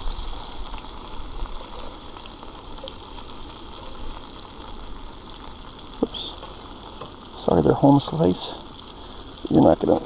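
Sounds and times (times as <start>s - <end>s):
fish sizzling in a skillet: 0.0s - 10.0s.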